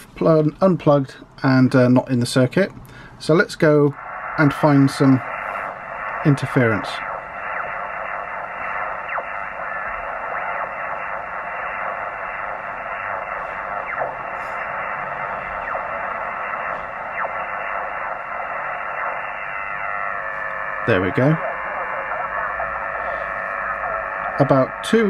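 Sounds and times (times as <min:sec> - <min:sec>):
radio band noise hiss: 0:00.0 - 0:25.0
faint falling radio whistles: 0:04.0 - 0:24.5.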